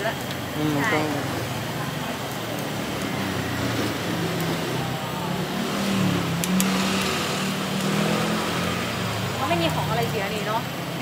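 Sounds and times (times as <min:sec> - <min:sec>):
street traffic: 0:00.0 - 0:11.0
vehicle engine running: 0:00.0 - 0:11.0.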